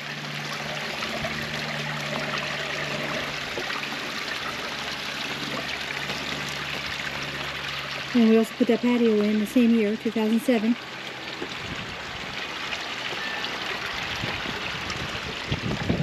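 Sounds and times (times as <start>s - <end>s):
low hum: 0.0s - 15.2s
water splashing over small waterfall: 0.0s - 16.0s.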